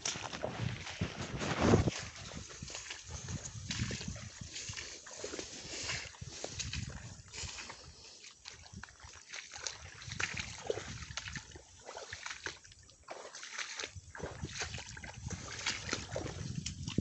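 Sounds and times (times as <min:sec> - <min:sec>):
footsteps wading through muddy water: 0:00.0 - 0:17.0.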